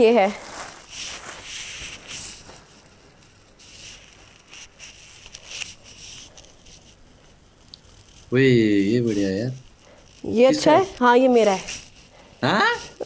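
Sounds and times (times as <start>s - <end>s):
clothes rustling: 0.0s - 13.0s
plastic packaging rustling: 0.0s - 13.0s.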